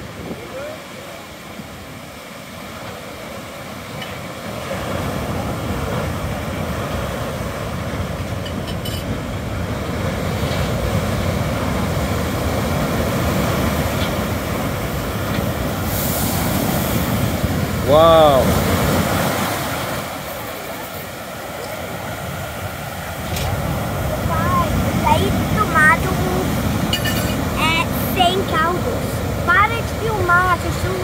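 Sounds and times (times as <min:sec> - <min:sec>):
heavy surf breaking on beach: 0:00.0 - 0:31.0.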